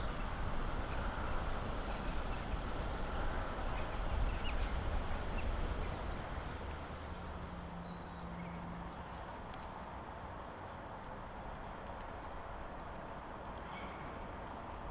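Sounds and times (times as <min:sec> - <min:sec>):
wind rumble on microphone: 0:00.0 - 0:14.9.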